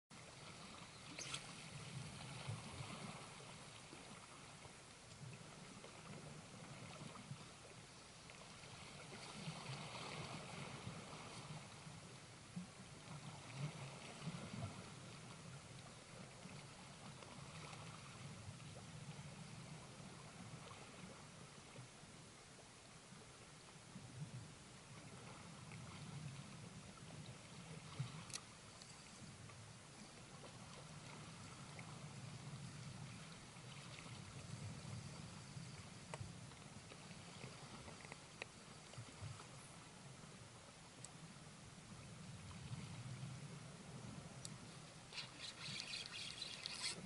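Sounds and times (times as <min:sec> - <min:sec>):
faint waves lapping at shore: 0:00.1 - 0:47.0.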